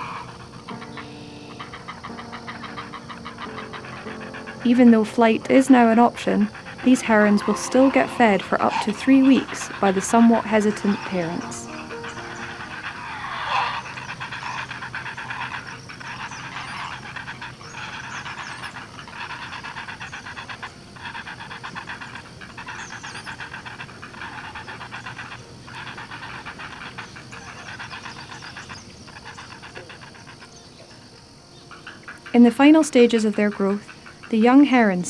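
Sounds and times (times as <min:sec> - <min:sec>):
young herons begging calls: 0:00.0 - 0:35.0.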